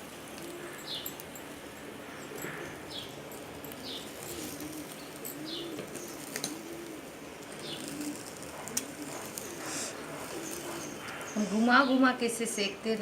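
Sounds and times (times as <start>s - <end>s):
bird cooing: 0.2s - 12.0s.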